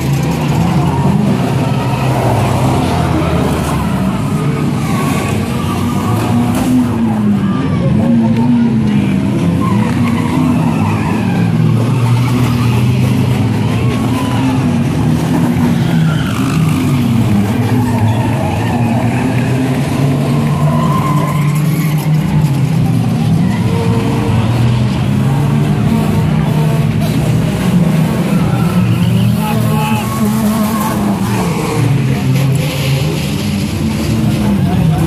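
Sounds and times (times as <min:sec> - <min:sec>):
cars crashing: 0:00.0 - 0:35.0
race car engines revving: 0:00.0 - 0:35.0.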